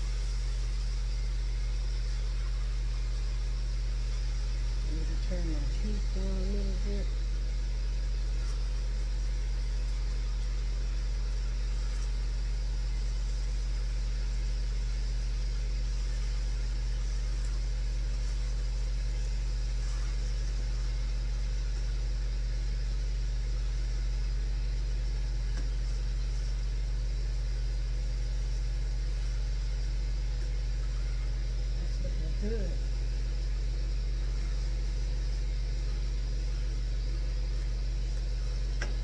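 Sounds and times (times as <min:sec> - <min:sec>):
grill fan humming: 0:00.0 - 0:39.0.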